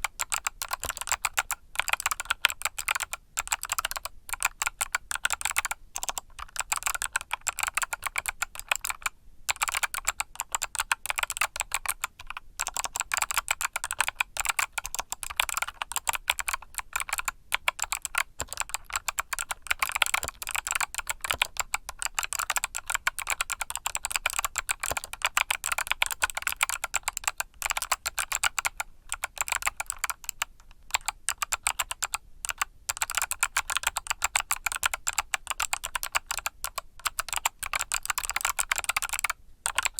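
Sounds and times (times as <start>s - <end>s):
mechanical keyboard typing clicks: 0.0s - 39.9s.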